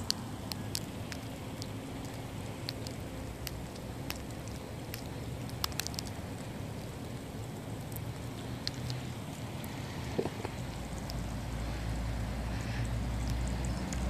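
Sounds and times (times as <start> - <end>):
raindrops ticking: 0.0 - 14.0
steady low rumble: 0.0 - 14.0.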